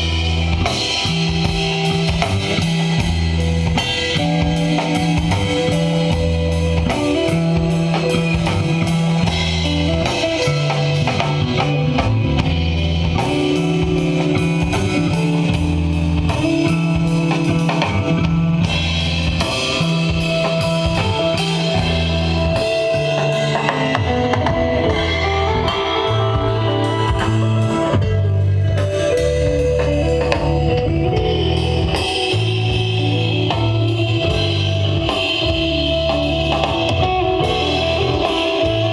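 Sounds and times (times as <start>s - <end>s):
bass line: 0.0s - 38.9s
drum kit with cymbals: 0.0s - 38.9s
sustained guitar: 0.0s - 38.9s.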